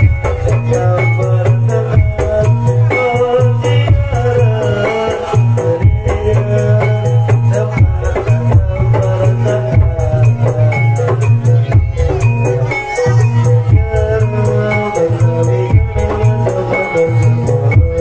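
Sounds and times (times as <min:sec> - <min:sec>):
drums and rattling percussion: 0:00.0 - 0:18.0
steady low bass: 0:00.0 - 0:18.0.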